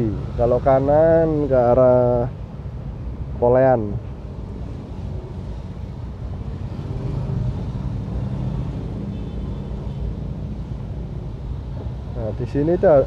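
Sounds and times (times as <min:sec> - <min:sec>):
idling car and motorcycle engines: 0:00.0 - 0:13.0.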